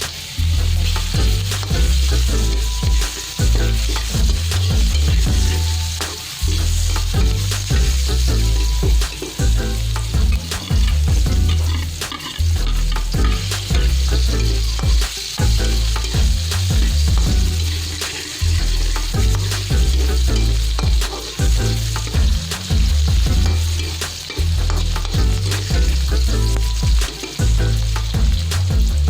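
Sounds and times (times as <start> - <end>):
heavy low rumble: 0.0 - 29.0
onion sizzling in oil: 0.0 - 29.0
spatula scraping pan: 0.9 - 22.2, 23.3 - 28.2.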